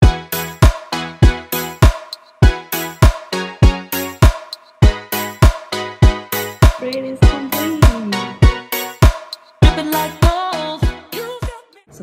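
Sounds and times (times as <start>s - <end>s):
electronic music with fast kick drum: 0.0s - 11.6s.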